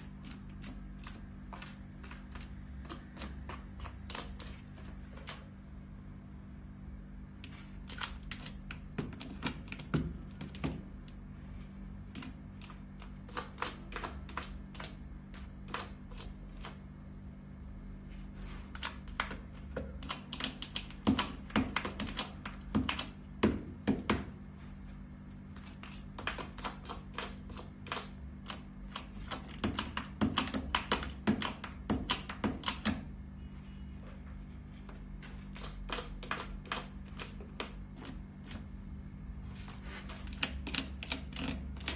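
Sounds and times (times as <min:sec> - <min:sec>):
cat scratching litter: 0:00.0 - 0:05.7, 0:07.3 - 0:17.1, 0:18.0 - 0:33.2, 0:34.5 - 0:41.9.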